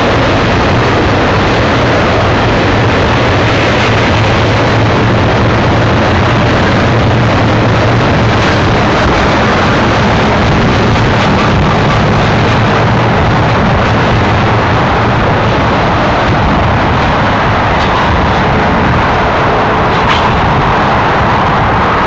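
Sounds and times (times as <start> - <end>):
low hum: 0.0 - 22.0
steel wheels on rail: 0.0 - 22.0.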